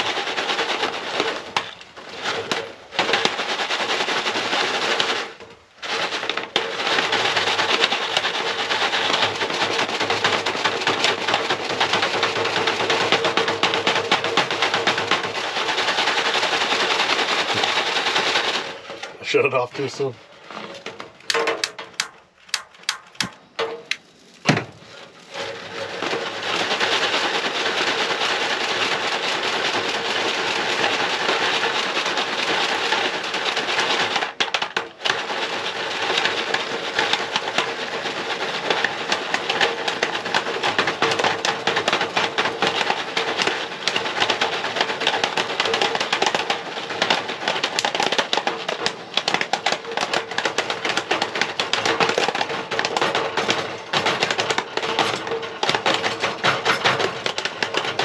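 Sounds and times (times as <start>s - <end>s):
popcorn popping: 0.0s - 58.0s.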